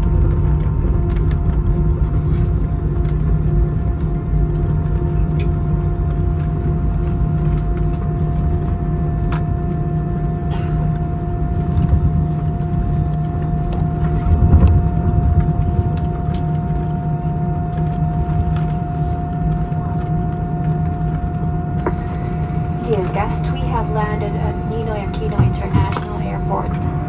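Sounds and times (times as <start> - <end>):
airliner cabin rumble: 0.0 - 27.0
constant hum: 0.0 - 27.0.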